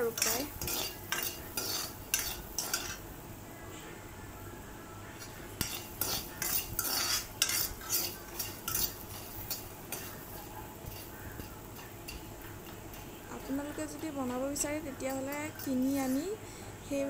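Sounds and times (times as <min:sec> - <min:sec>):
metal spatula scraping wok: 0:00.0 - 0:03.1, 0:05.2 - 0:16.4.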